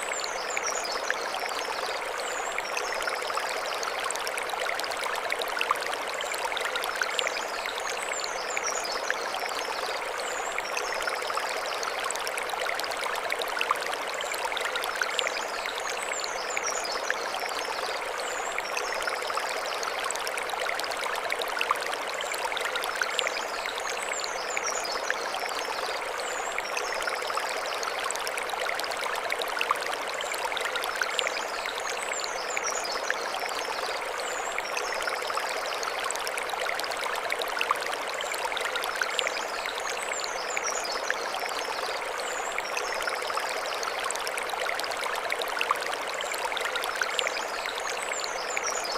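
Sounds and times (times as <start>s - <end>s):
stream running over stones: 0.0s - 48.9s.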